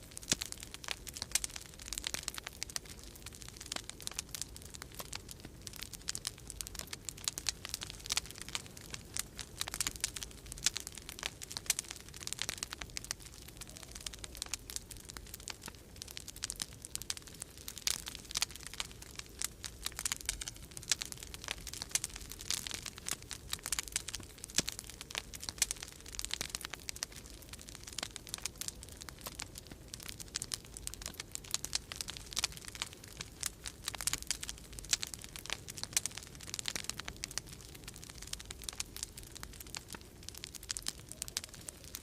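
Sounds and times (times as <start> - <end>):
low rumble of storm wind: 0.0 - 42.0
wood fire crackling and popping: 0.0 - 42.0.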